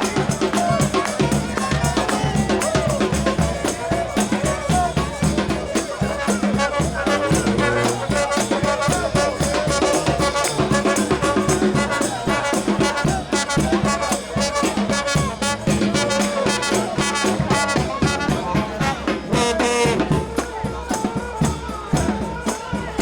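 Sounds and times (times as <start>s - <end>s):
brass band playing: 0.0s - 23.0s
steady drum beat: 0.0s - 23.0s.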